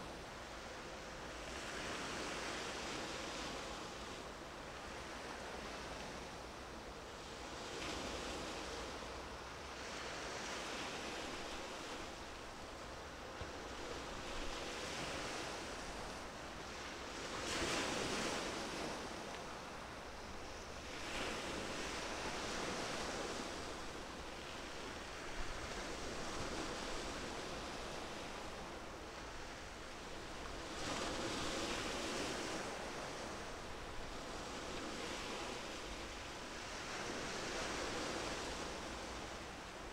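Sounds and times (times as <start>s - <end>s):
sea waves washing in: 0.0s - 39.9s
wind: 0.0s - 39.9s.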